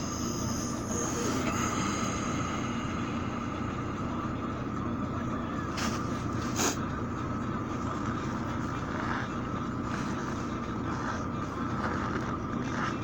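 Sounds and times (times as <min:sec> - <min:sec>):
thin steady whine: 0:00.0 - 0:13.0
vehicle engine idling: 0:00.0 - 0:13.0.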